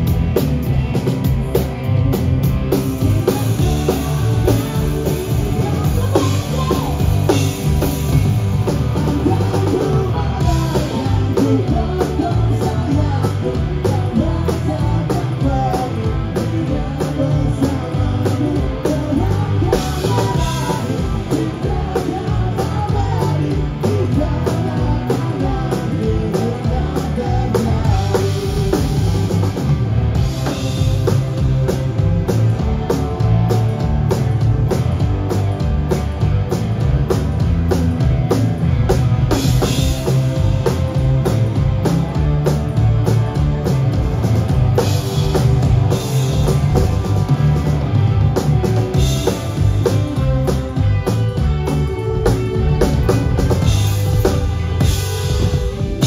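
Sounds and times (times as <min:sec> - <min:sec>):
electric guitar: 0:00.0 - 0:56.0
punk rock band playing live: 0:00.0 - 0:56.0.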